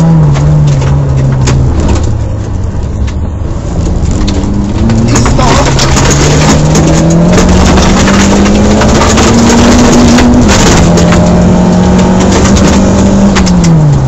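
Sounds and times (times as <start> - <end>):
gravel pinging against car: 0.0 - 14.0
rally car engine: 0.0 - 14.0.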